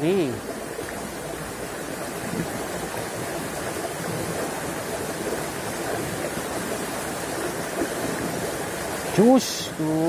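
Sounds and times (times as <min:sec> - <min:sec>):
river flowing over stones: 0:00.0 - 0:10.0.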